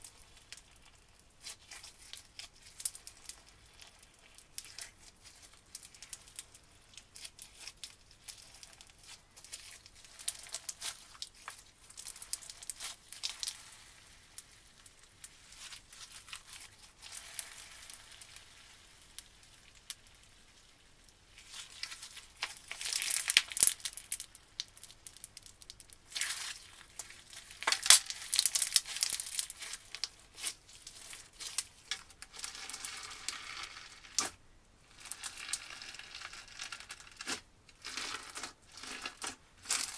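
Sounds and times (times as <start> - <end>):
crunchy slime crackling: 0.0 - 39.9.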